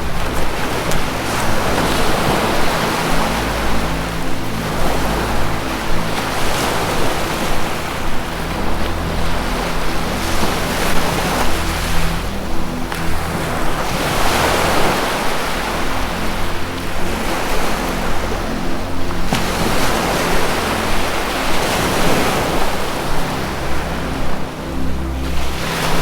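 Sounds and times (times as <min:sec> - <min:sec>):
ocean surf washing in: 0:00.0 - 0:26.0
soft ambient music: 0:00.0 - 0:26.0.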